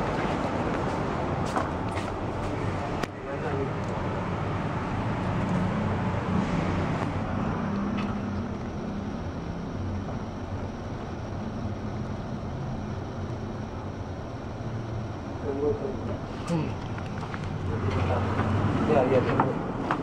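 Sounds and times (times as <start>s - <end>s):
elevator hum and rumble: 0.0s - 20.0s.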